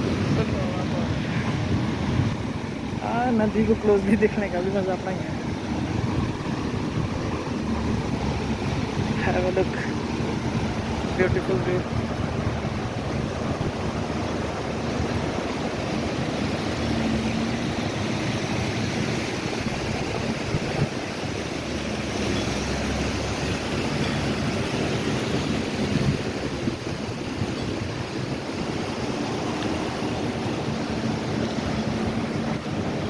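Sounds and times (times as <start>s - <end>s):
fast mountain river rushing: 0.0s - 33.0s
wind buffeting microphone: 0.0s - 33.0s.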